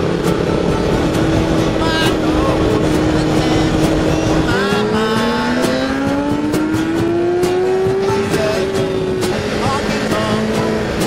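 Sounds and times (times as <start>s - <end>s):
motorcycle engine accelerating: 0.0s - 11.0s
wind noise: 0.0s - 11.0s.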